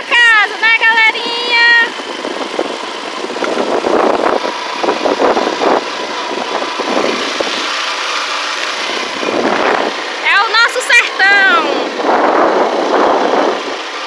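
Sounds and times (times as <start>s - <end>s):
wind rushing over microphone: 0.0s - 7.7s, 8.9s - 14.0s
motorcycle engine running: 0.0s - 14.0s.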